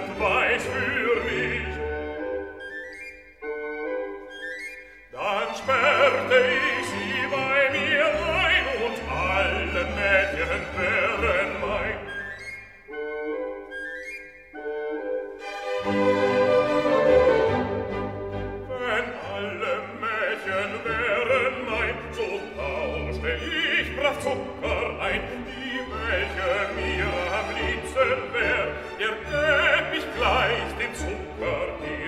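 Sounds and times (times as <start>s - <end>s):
operatic singing: 0.0s - 2.3s, 5.1s - 13.0s, 15.6s - 32.0s
orchestral accompaniment: 0.0s - 32.0s.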